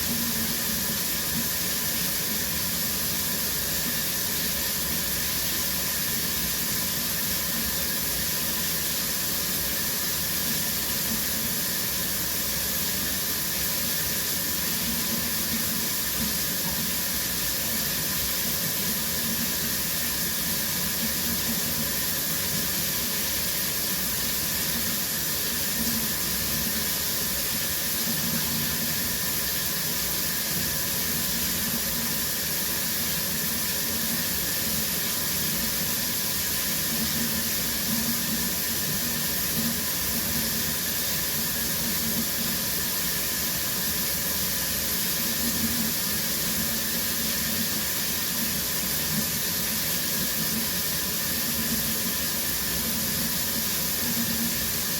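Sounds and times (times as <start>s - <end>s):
shower spray hissing: 0.0s - 54.9s.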